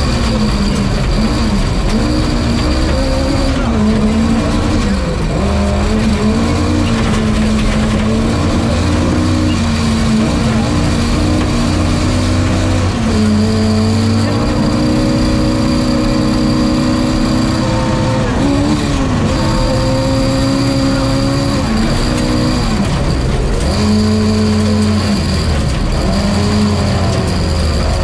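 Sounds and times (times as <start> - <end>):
car engine at high revs: 0.0 - 28.0.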